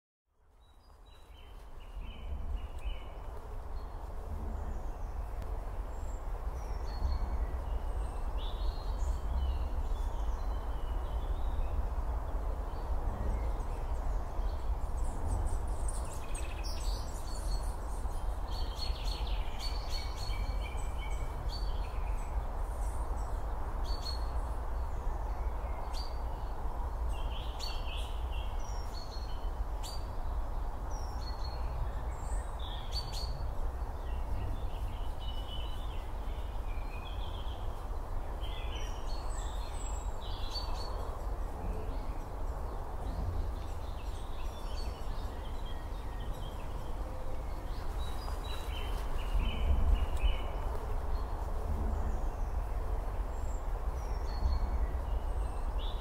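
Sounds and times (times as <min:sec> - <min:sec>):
woodland birds chirping: 0:00.5 - 0:56.0.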